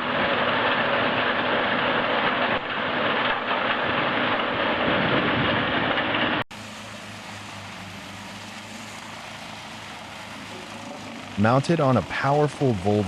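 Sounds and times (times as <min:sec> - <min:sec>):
machine engine humming: 0:00.0 - 0:13.0
wood chipper grinding: 0:00.0 - 0:13.0.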